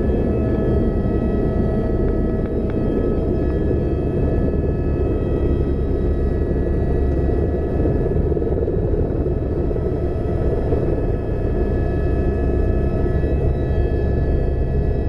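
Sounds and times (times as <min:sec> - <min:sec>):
helicopter rotor rumble: 0:00.0 - 0:15.0
high turbine whine: 0:00.0 - 0:15.0.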